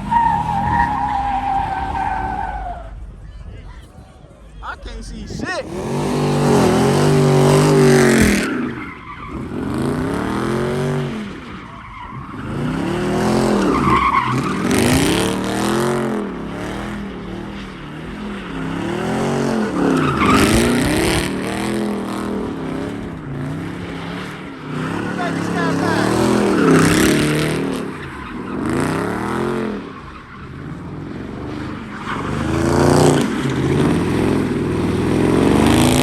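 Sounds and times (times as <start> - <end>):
tires squealing: 0.0 - 36.0
car engine revving: 4.8 - 36.0.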